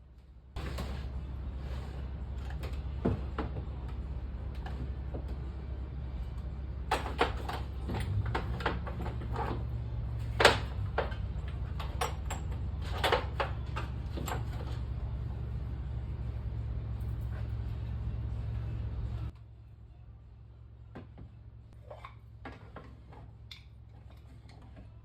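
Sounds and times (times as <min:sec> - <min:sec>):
steady low hum: 0:00.0 - 0:21.8.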